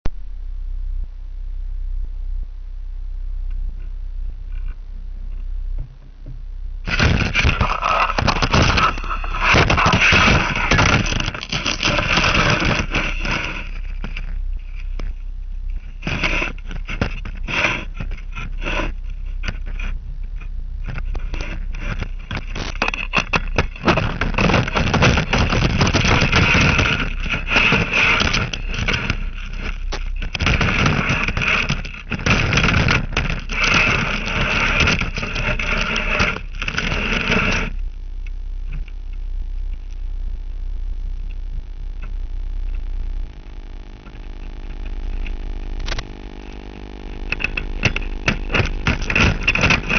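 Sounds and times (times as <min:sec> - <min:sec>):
rough scraping and crackling: 0:03.5 - 0:49.9.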